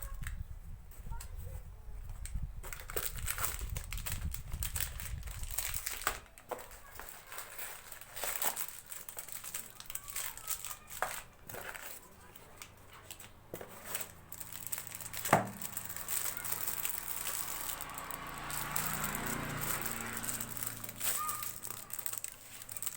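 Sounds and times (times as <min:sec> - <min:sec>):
plastic packaging crinkling: 0:02.6 - 0:22.9.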